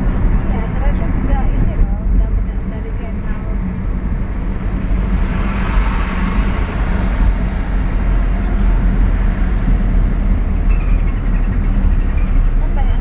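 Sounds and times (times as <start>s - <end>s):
car road noise at speed: 0.0s - 13.0s.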